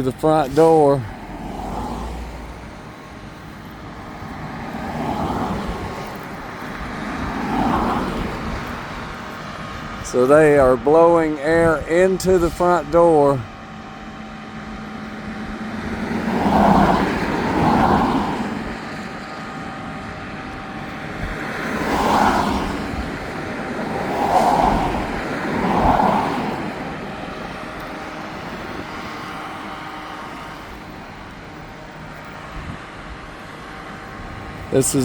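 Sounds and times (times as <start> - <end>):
steady traffic hum: 0.0 - 35.0
vehicles passing: 0.0 - 35.0.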